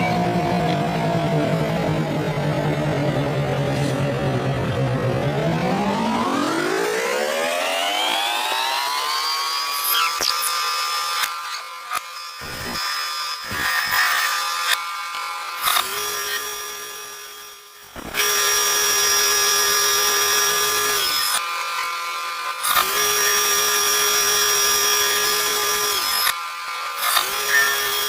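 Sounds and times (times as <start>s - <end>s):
lathe humming and cutting: 0.0s - 28.0s.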